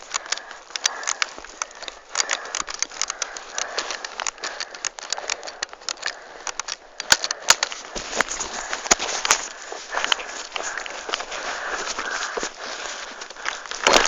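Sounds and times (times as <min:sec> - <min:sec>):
sharp clicks: 0:00.0 - 0:12.6, 0:13.2 - 0:14.0
footsteps through dry undergrowth: 0:00.0 - 0:14.0
rattle of carried gear: 0:00.0 - 0:14.0.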